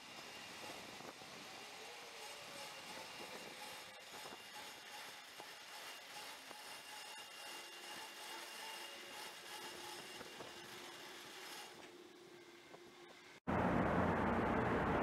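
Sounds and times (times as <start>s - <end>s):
low machinery tone: 0.0s - 15.0s
machinery hum with whining: 0.0s - 15.0s.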